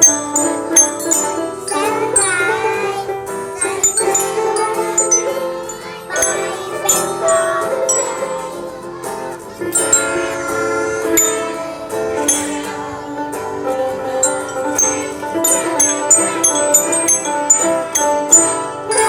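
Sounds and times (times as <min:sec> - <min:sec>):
bright struck bell notes: 0:00.0 - 0:03.0, 0:03.6 - 0:08.7, 0:09.8 - 0:13.1, 0:14.2 - 0:19.0
sustained accompanying tones: 0:00.0 - 0:19.0.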